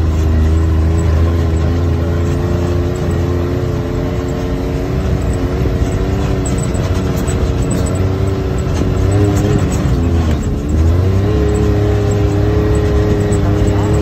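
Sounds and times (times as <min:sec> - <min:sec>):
utility vehicle engine droning: 0:00.0 - 0:14.0.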